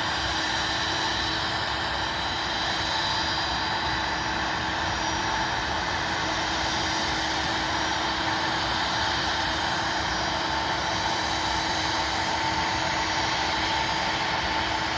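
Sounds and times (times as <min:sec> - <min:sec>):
jet engines idling: 0:00.0 - 0:14.9.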